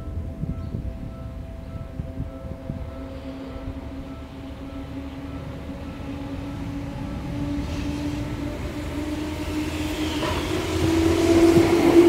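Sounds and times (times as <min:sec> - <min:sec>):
electric train approaching: 0:00.0 - 0:12.0.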